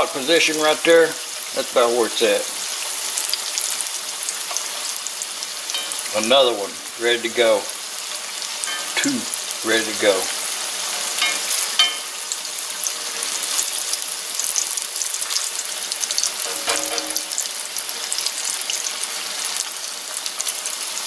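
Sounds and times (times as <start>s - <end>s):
tomato slices frying in oil: 0.0s - 21.0s.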